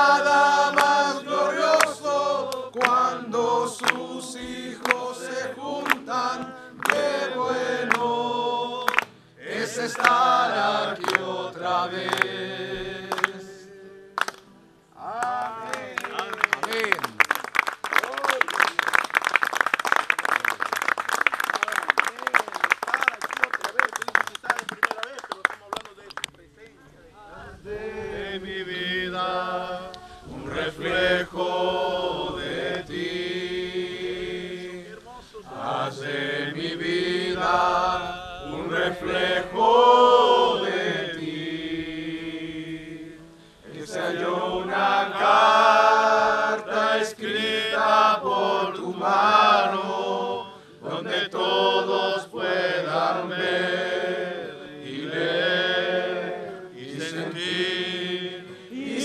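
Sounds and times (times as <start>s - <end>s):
congregation singing: 0.0s - 16.6s, 27.1s - 59.0s.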